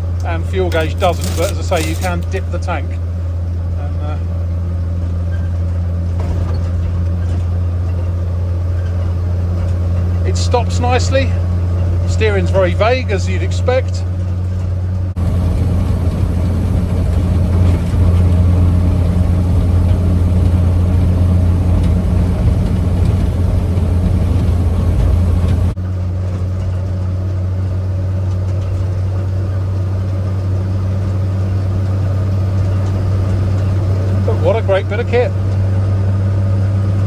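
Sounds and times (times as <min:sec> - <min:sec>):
road noise: 0:00.0 - 0:37.0
truck engine running: 0:00.0 - 0:37.0.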